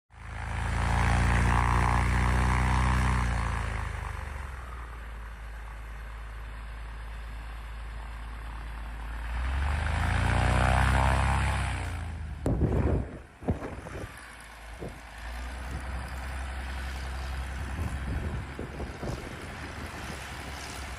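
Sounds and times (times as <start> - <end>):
propeller plane passing overhead: 0.1 - 20.9.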